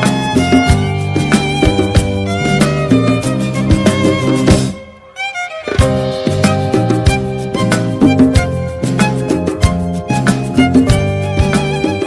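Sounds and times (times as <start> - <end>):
melody over a steady beat: 0.0 - 12.0.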